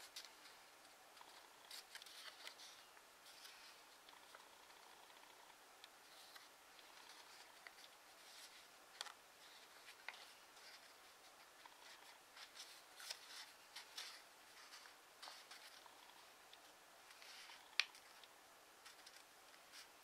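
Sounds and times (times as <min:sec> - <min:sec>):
paper rustling and crinkling: 0:00.0 - 0:04.4, 0:06.0 - 0:16.3, 0:17.0 - 0:20.0.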